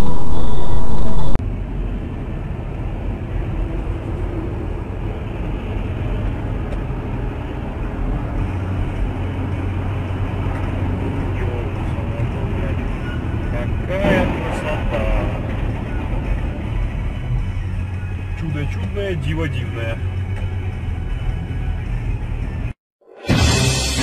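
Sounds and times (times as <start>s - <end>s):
car engine and road noise: 0.0s - 22.8s.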